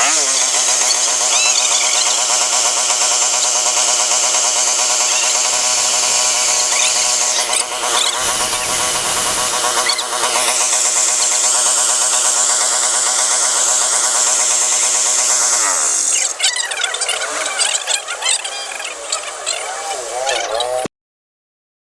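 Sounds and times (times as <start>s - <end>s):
generator engine running: 0.0s - 20.2s.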